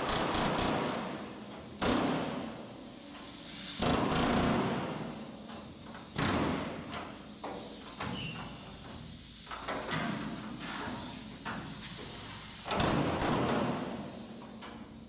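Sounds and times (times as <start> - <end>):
pneumatic air chisel hammering: 0.0 - 15.0.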